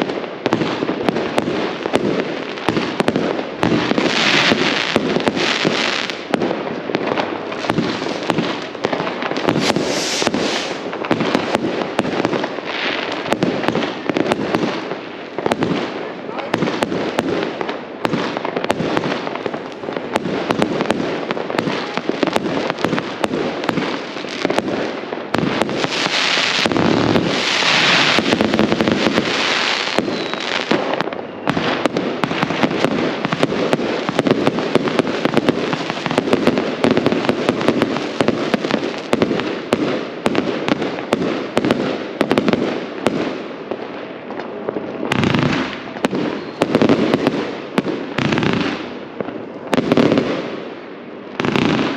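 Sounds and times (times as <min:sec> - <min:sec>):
hissing crackle: 0:00.0 - 0:15.6, 0:16.3 - 0:49.4
fireworks bangs and crackles: 0:00.0 - 0:51.9.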